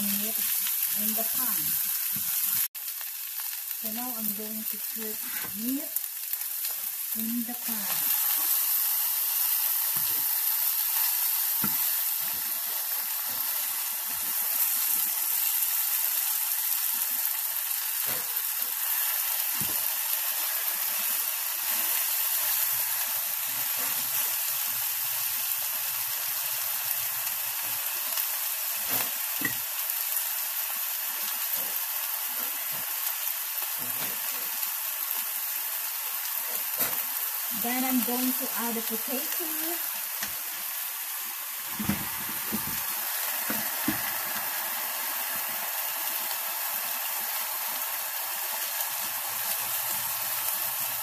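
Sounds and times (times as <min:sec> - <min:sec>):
meat and onions sizzling in oil: 0:00.0 - 0:51.0.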